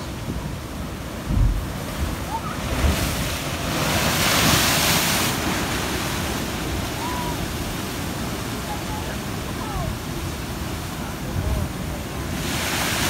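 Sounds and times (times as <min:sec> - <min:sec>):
waves crashing onto rocks: 0:00.0 - 0:13.0.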